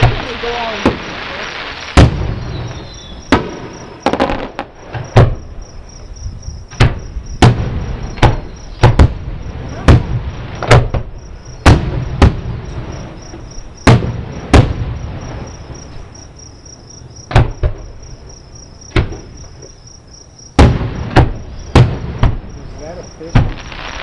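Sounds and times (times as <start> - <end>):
crickets chirping: 0.0 - 24.0
distant fireworks booming: 0.0 - 24.0.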